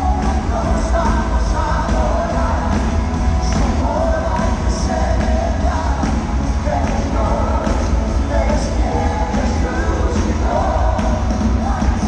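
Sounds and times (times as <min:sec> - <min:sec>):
drum beat: 0:00.0 - 0:12.0
lead vocal singing: 0:00.0 - 0:12.0
live band playing: 0:00.0 - 0:12.0.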